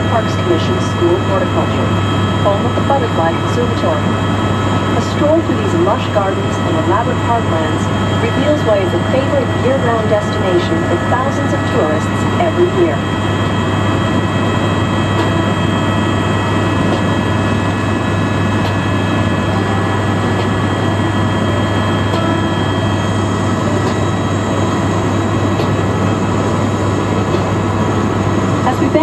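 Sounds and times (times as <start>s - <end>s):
helicopter rotor and engine hum: 0.0s - 29.0s.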